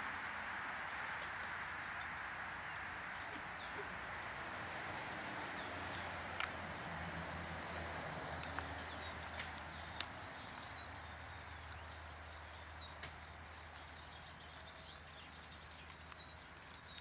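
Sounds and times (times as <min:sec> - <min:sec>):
small birds chirping: 0:00.0 - 0:17.0
sharp ticks: 0:00.5 - 0:17.0.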